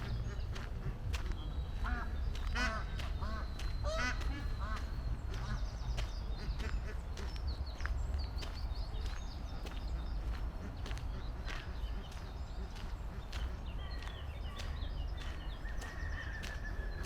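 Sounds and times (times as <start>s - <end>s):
ducks quacking: 0.0s - 17.0s
small birds chirping: 0.0s - 17.0s.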